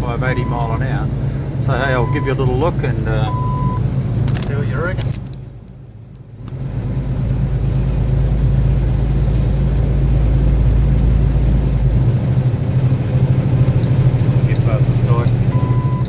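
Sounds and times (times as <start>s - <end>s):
truck diesel engine droning: 0.0s - 5.3s, 6.3s - 16.0s
deep low rumble: 0.0s - 16.0s
road noise: 0.0s - 16.0s.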